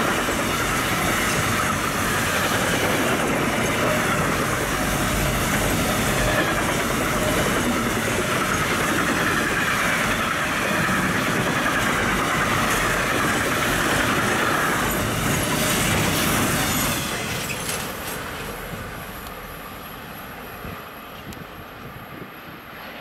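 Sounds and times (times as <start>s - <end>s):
freight train wheels rolling: 0.0s - 23.0s.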